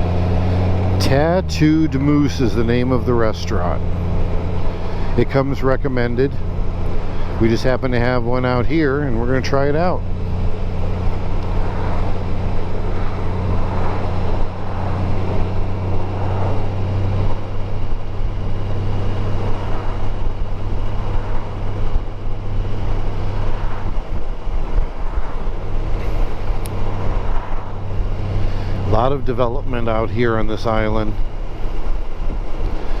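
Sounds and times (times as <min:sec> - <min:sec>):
motorcycle engine hum: 0:00.0 - 0:33.0
wind and road noise: 0:00.0 - 0:33.0.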